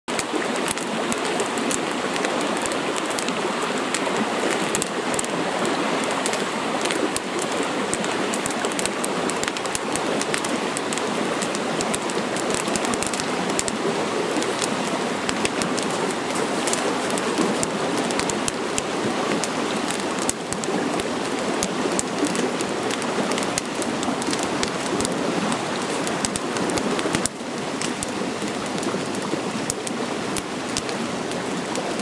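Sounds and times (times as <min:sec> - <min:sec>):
campfire crackling and popping: 0:00.1 - 0:32.0.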